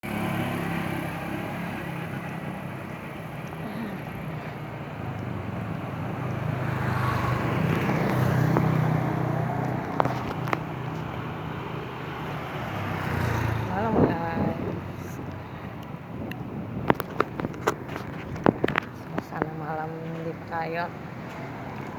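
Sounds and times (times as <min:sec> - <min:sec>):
street noise: 0:00.0 - 0:21.9.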